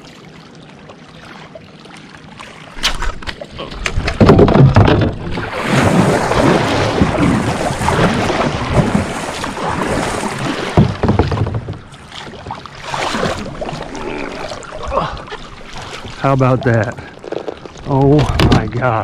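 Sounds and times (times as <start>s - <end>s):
kayak paddle splashing water: 0.0s - 19.0s.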